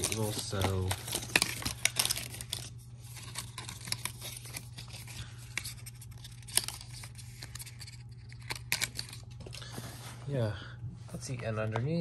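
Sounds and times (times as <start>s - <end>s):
cable rustling and clicking: 0.0s - 9.6s
steady low hum: 0.0s - 12.0s.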